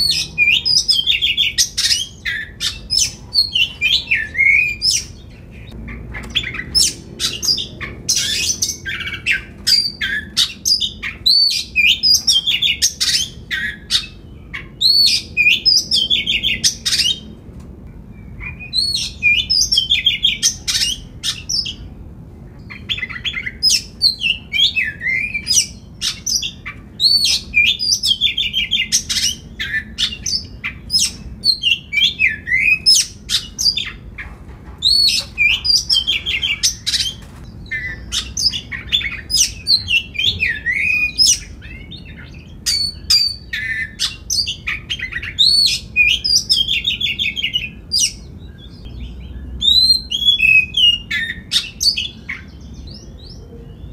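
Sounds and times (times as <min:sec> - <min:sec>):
bird singing: 0:00.0 - 0:21.9, 0:22.6 - 0:53.9.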